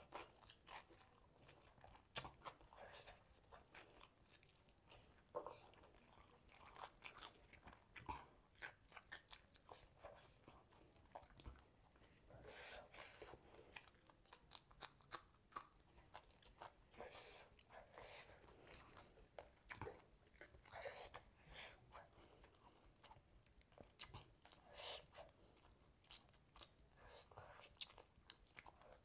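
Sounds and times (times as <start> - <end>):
person chewing and crunching: 0.0 - 29.0.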